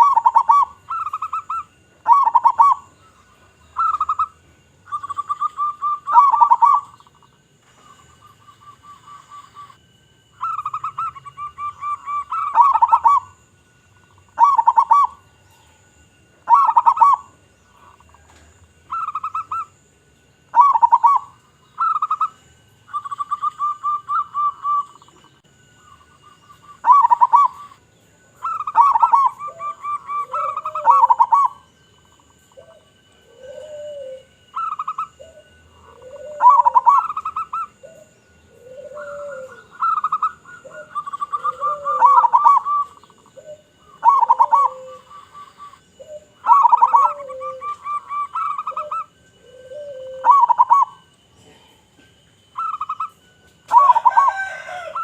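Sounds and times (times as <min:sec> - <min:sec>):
doves cooing: 0:00.0 - 0:55.0.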